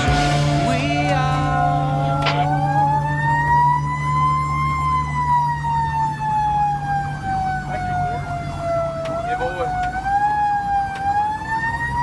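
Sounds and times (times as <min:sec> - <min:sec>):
fire truck siren wailing: 0:00.0 - 0:12.0
truck engine hum: 0:00.0 - 0:12.0.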